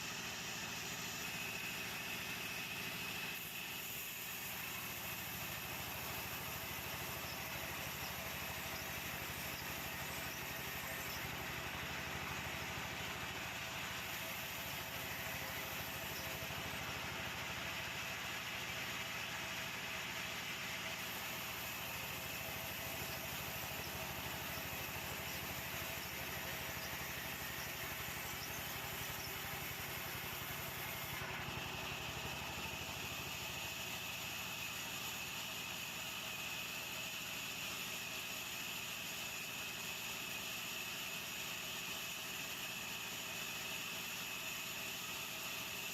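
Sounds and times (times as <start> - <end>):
high steady whine: 0.0 - 40.2
sawmill machinery humming: 0.0 - 45.9.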